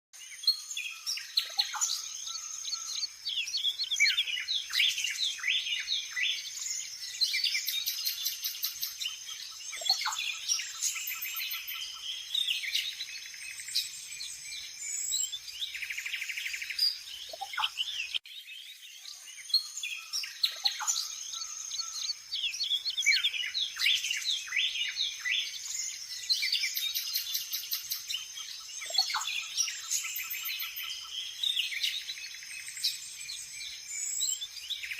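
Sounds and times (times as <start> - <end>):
birds chirping and whistling: 0.2 - 34.9.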